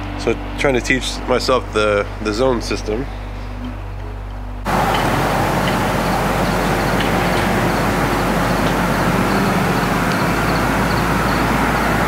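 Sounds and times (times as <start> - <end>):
continuous outdoor rush: 0.0 - 12.0.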